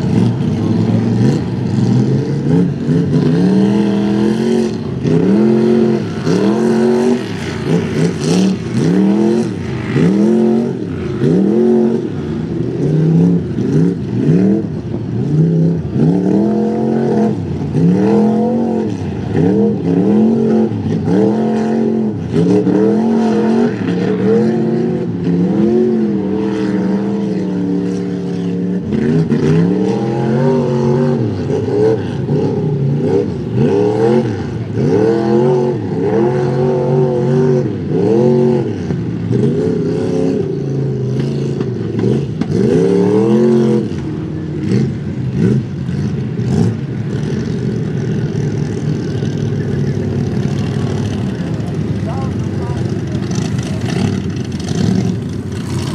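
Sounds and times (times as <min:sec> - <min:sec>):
tires spinning in mud: 0:00.0 - 0:55.9
truck engine revving: 0:00.0 - 0:55.9.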